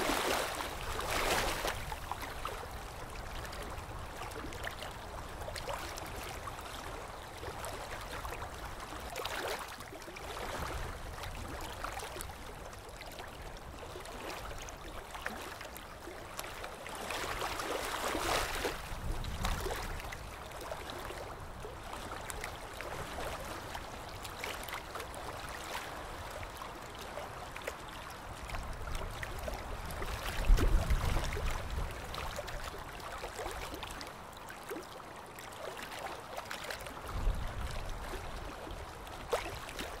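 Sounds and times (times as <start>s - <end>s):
water sloshing and gurgling: 0.0s - 40.0s.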